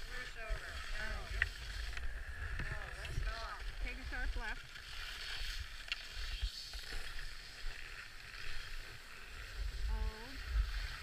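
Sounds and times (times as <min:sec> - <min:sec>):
wind rumbling on microphone: 0:00.0 - 0:07.4, 0:08.4 - 0:11.0
skis scraping on snow: 0:00.0 - 0:11.0.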